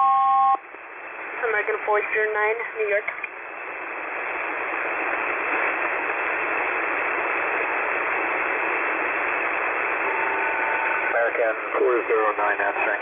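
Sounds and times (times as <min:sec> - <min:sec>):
radio static hiss: 0:00.1 - 0:13.0.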